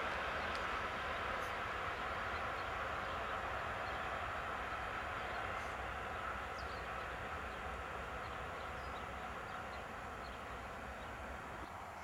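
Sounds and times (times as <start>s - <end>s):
distant freight train rumbling: 0.0s - 12.0s.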